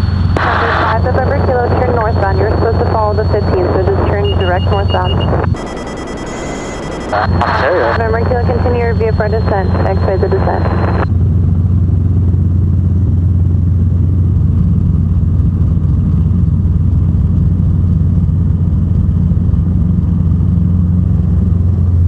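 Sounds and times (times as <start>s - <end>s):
helicopter engine and rotors droning: 0.0s - 18.6s.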